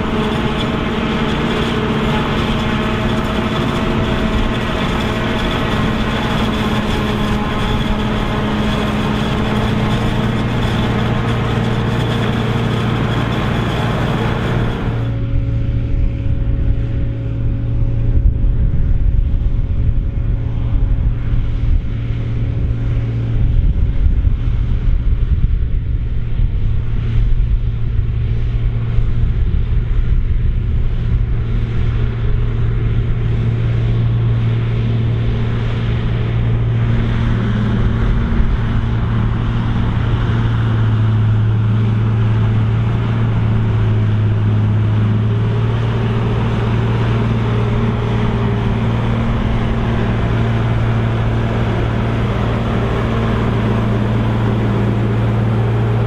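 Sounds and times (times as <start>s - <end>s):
diesel dumper engine drone: 0.0s - 56.0s
machine rumbling and clatter: 0.0s - 56.0s.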